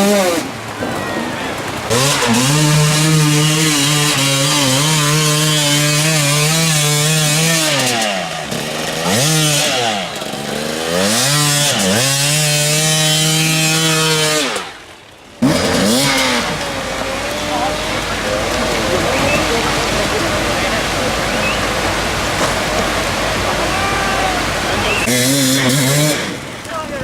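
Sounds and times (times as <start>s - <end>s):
motorcycle engine revving: 0.0s - 26.7s.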